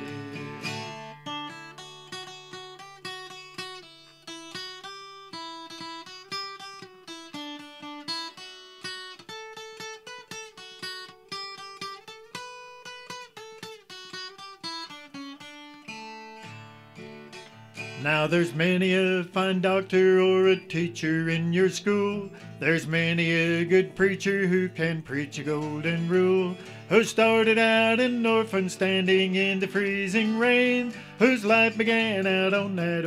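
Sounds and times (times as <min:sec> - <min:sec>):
acoustic guitar picking: 0:00.0 - 0:33.0.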